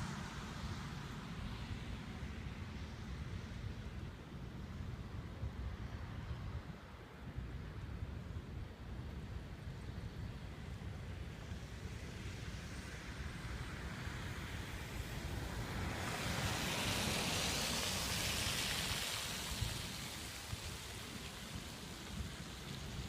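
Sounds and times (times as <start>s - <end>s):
wind hiss: 0.0s - 23.0s
wind rumbling on microphone: 0.0s - 23.0s.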